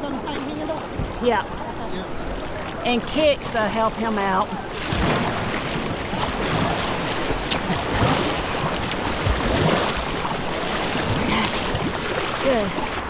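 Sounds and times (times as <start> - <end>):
paddle strokes slapping water: 0.0 - 13.0
river water rushing: 0.0 - 13.0
swimmer kicking water: 0.0 - 13.0.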